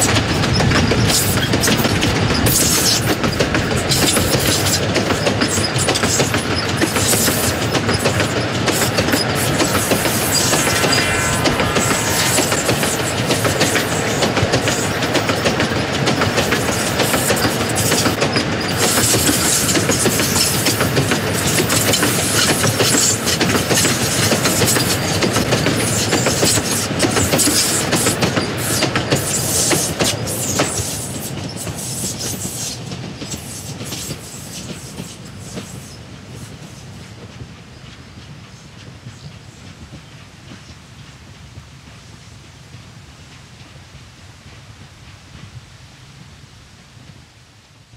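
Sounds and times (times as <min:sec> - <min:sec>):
train wheels clattering over rail joints: 0:00.0 - 0:10.4, 0:14.5 - 0:45.6.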